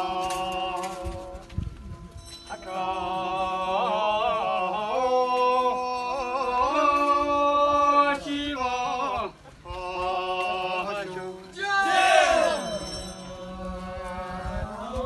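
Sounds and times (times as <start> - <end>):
voices singing a folk chant: 0.0 - 15.0.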